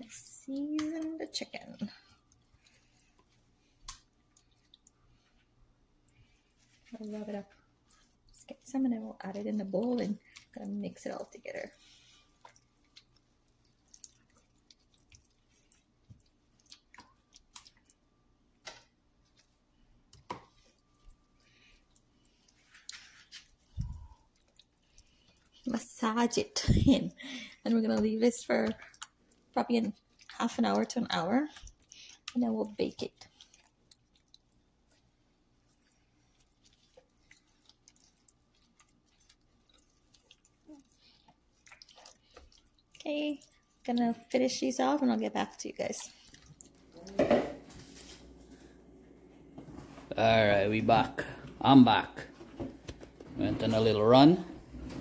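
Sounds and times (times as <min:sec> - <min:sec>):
hands squishing raw chicken: 0:00.0 - 0:48.6.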